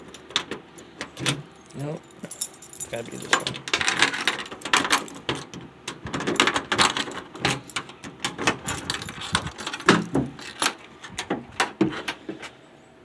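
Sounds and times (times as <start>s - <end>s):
key turning in lock: 0.0s - 12.2s
keyring jangling: 0.0s - 12.2s.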